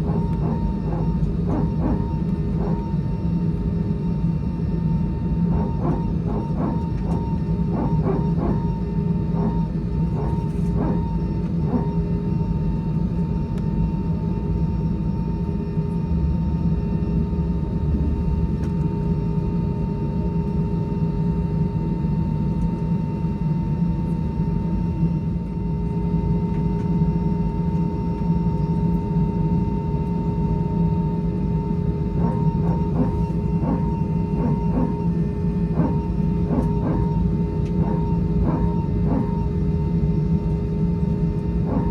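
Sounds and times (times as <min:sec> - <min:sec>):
aircraft cabin hum and rumble: 0:00.0 - 0:41.9
constant high whine: 0:00.0 - 0:41.9.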